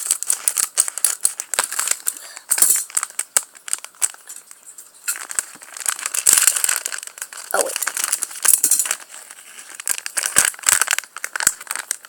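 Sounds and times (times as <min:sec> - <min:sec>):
scissors cutting plastic packaging: 0:00.0 - 0:04.2, 0:05.1 - 0:09.1, 0:09.7 - 0:12.0
plastic crinkling: 0:00.0 - 0:12.0.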